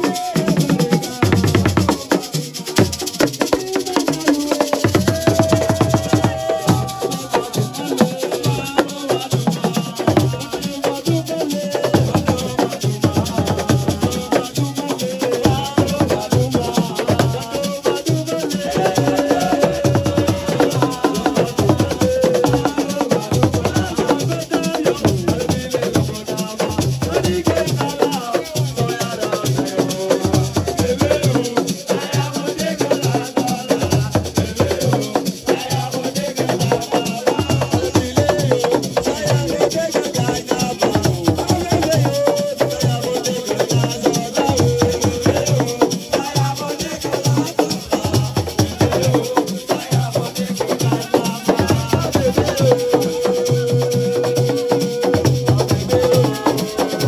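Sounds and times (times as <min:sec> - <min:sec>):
hand drums: 0:00.0 - 0:57.0
shaker rattles: 0:00.0 - 0:57.0
voices singing over music: 0:00.0 - 0:57.0.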